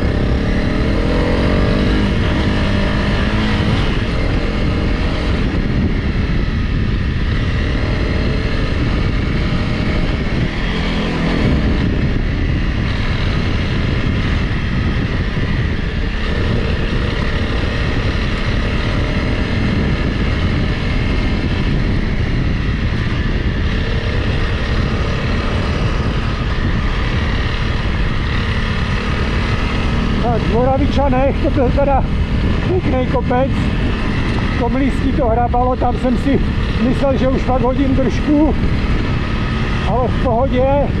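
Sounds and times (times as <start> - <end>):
low rumble of ride noise: 0.0 - 41.0
motorcycle engine running: 0.0 - 41.0.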